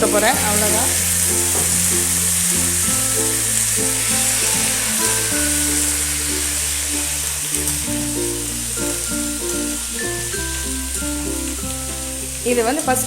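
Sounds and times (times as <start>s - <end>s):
chicken sizzling in hot oil: 0.0s - 13.0s
slow low melody music: 0.0s - 13.0s.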